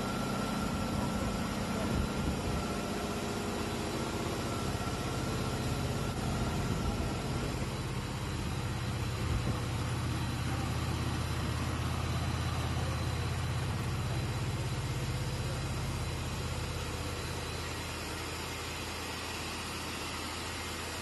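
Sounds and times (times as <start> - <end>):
mechanical hum of motors: 0.0 - 21.0
thin steady whine: 0.0 - 21.0.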